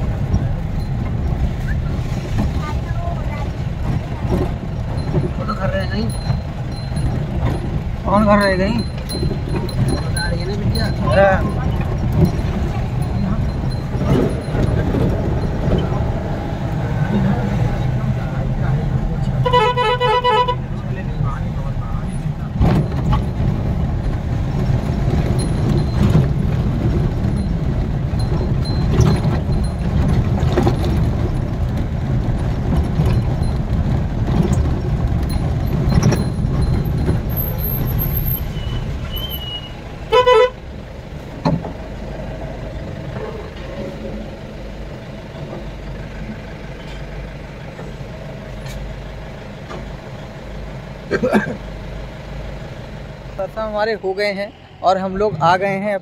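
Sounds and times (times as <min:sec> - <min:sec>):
motor vehicle rumbling: 0:00.0 - 0:56.0.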